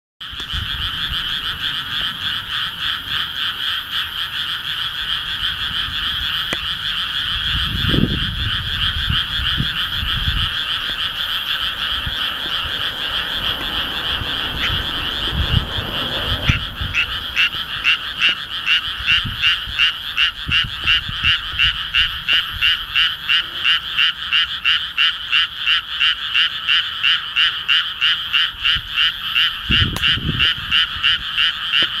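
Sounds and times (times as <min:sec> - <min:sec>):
frogs croaking in chorus: 0:00.2 - 0:32.0.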